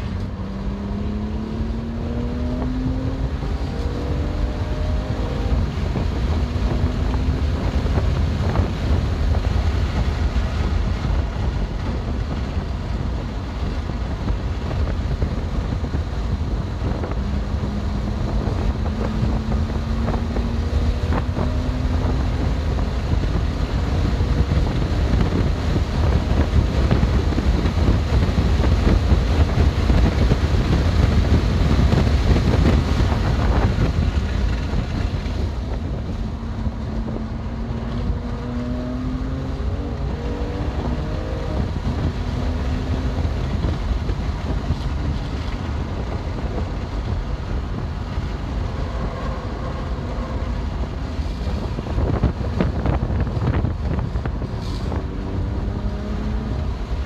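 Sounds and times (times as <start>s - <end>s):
car engine revving: 0.0s - 57.0s
road roar: 0.0s - 57.0s
wind buffeting microphone: 0.0s - 57.0s.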